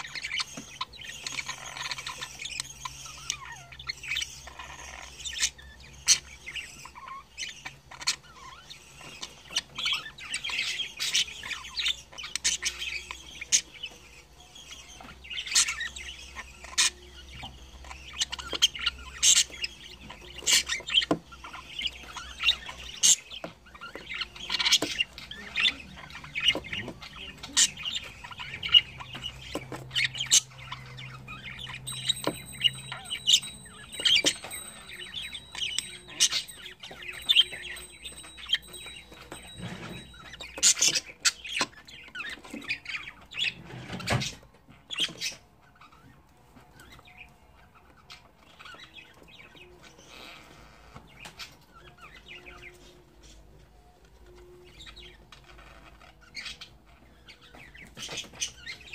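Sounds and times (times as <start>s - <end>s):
budgerigars chattering and chirping: 0.0s - 58.9s.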